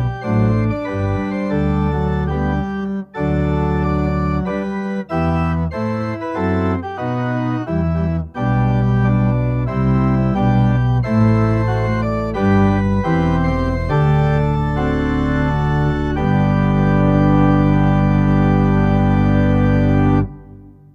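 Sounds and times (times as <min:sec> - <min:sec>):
church organ chords: 0:00.0 - 0:20.9.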